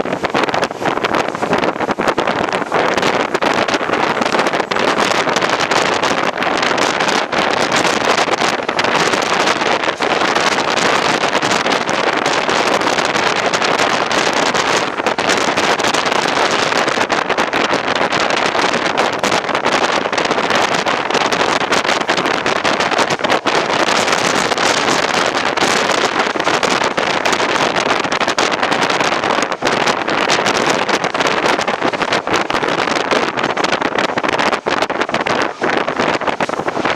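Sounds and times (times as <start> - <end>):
rush of wind: 0.0 - 36.9
train wheels on rails: 0.0 - 36.9.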